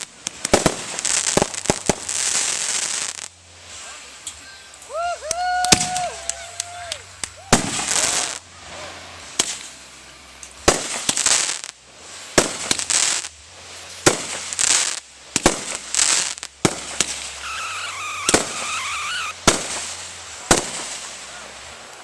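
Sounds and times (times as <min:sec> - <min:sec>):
fireworks bangs: 0:00.0 - 0:04.0, 0:04.8 - 0:22.0
fireworks hissing crackle: 0:00.0 - 0:22.0.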